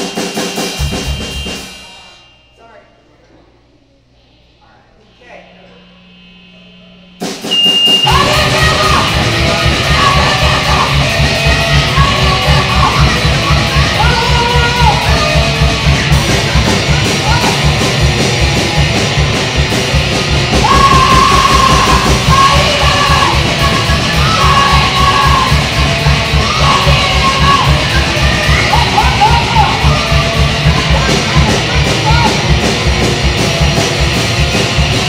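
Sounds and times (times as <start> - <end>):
pounding drums: 0.0 - 2.2, 7.2 - 35.0
distorted guitar: 5.1 - 35.0.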